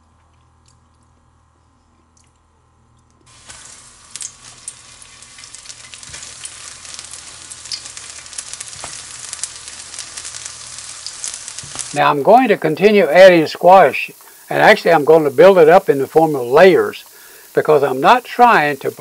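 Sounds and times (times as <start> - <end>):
food sizzling in hot oil: 3.3 - 19.0.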